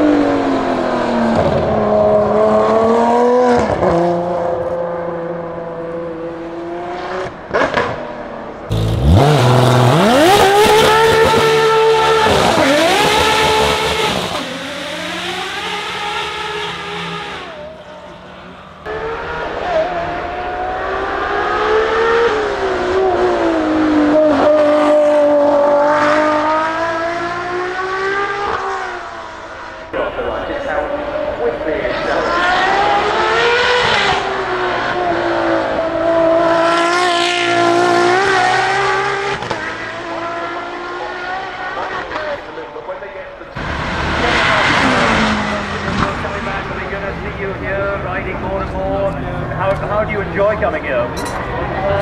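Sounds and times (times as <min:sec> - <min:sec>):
car engine revving hard: 0:00.0 - 0:42.6, 0:43.5 - 0:52.0.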